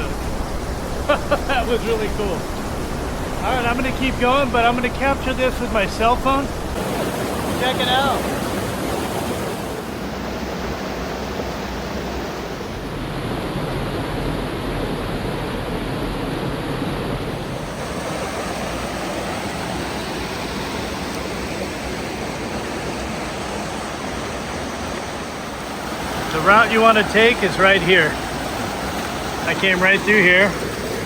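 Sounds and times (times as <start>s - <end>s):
creek rushing over rocks: 0.0s - 14.4s, 17.3s - 31.0s.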